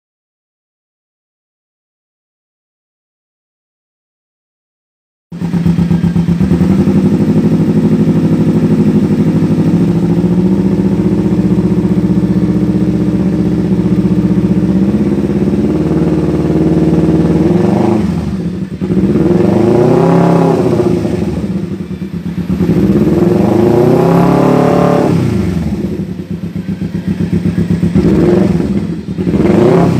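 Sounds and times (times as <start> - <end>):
motorcycle engine idling and revving: 5.3 - 29.9.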